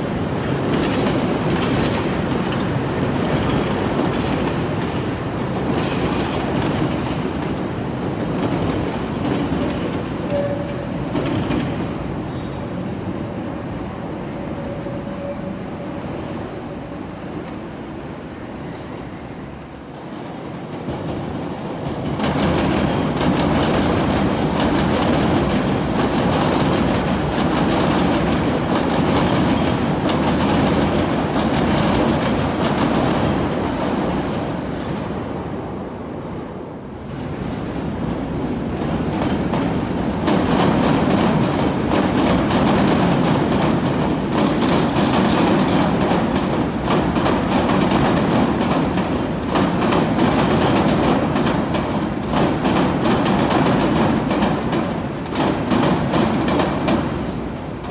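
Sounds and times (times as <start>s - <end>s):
train wheels clattering on steel track: 0.0s - 13.3s, 19.9s - 35.5s, 37.0s - 57.9s.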